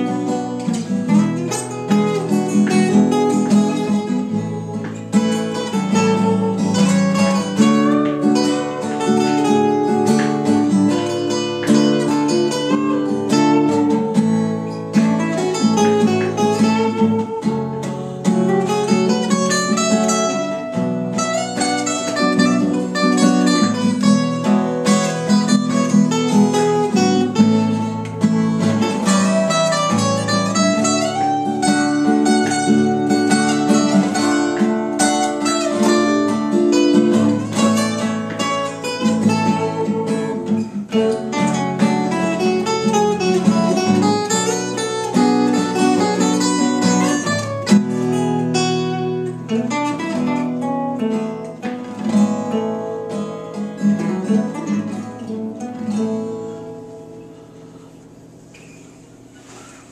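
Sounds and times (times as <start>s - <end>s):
acoustic guitar lead line: 0.0s - 59.9s
acoustic guitar strumming chords: 0.0s - 59.9s.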